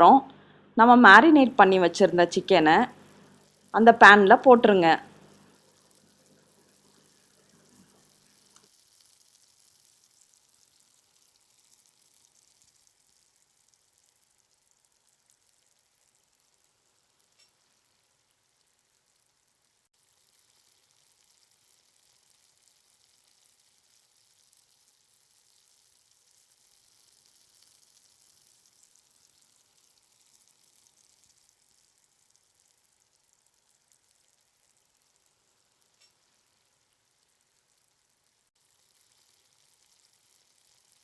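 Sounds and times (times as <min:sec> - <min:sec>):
chicken frying in oil: 0:01.6 - 0:41.0.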